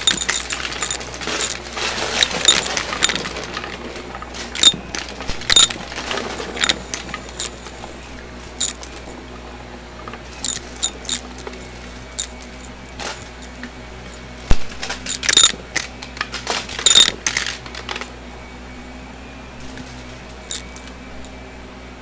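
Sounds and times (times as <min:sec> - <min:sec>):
clicking and rattling: 0:00.0 - 0:09.2, 0:10.0 - 0:18.1, 0:19.8 - 0:21.4
vacuum cleaner humming: 0:00.0 - 0:22.0.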